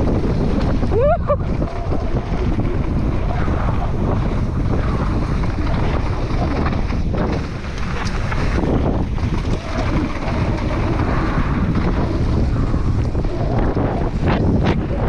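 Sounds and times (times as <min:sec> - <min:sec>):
bike rattling on rocky trail: 0:00.0 - 0:15.0
wind buffeting microphone: 0:00.0 - 0:15.0.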